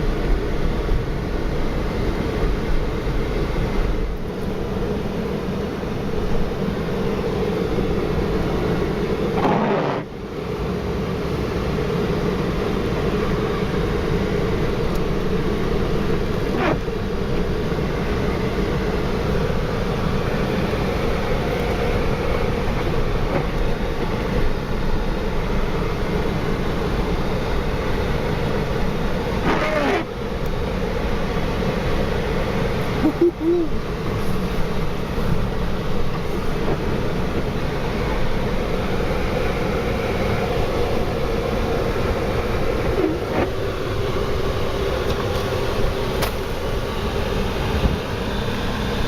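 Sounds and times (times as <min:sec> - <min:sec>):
vehicle engine and tyre rumble: 0:00.0 - 0:49.0.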